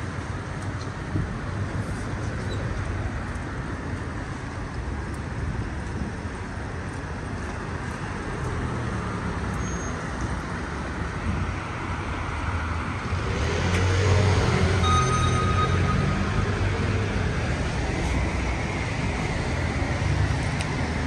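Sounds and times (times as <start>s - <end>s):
car engines rumbling: 0.0s - 21.0s
heavy vehicle low rumble: 0.0s - 21.0s.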